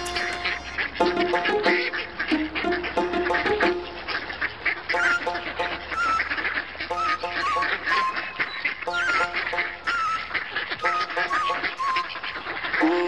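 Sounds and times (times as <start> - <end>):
background music melody: 0.0 - 13.0
duck quacking: 0.0 - 13.0.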